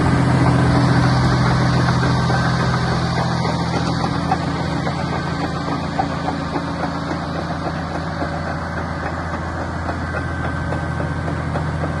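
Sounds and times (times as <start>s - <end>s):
bulldozer diesel engine idling: 0.0s - 12.0s.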